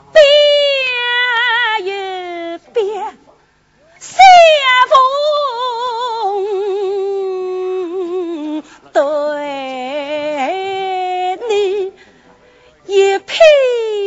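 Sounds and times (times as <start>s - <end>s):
woman singing with vibrato: 0.0s - 3.2s, 4.0s - 12.0s, 12.9s - 14.0s.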